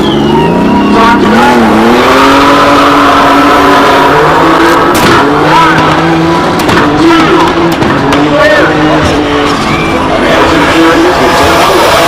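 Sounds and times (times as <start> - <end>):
race car accelerating hard: 0.0 - 12.0.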